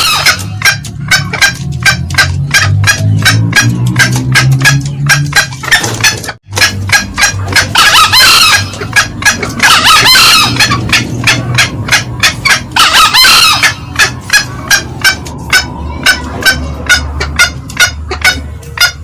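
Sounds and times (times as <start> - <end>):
junglefowl cackling: 0.0 - 19.0.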